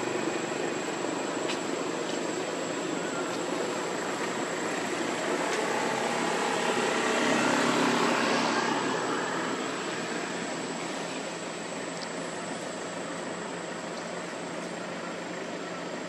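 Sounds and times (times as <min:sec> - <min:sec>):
motor drone: 0:00.0 - 0:13.6
high-pitched whine: 0:00.0 - 0:16.0.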